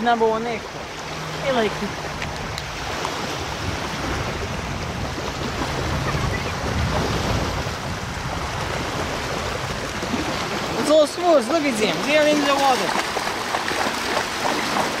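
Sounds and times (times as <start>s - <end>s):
lake water: 0.0s - 15.0s
wind buffeting microphone: 0.0s - 15.0s.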